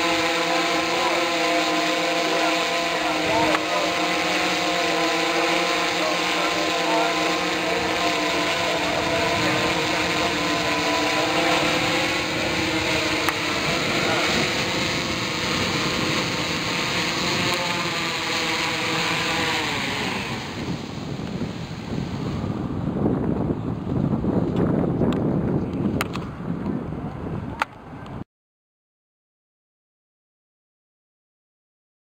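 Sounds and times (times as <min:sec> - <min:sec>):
drone motors and propellers whirring: 0:00.0 - 0:28.2.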